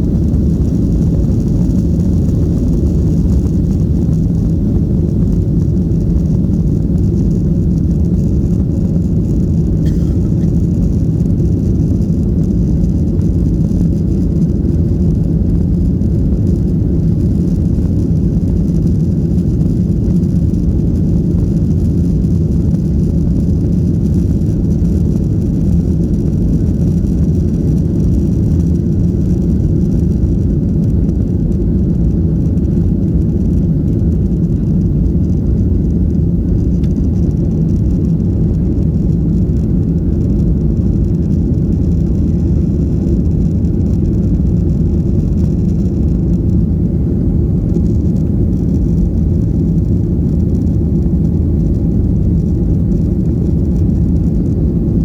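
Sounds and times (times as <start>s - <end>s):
jet engines heard in cabin: 0.0s - 55.0s.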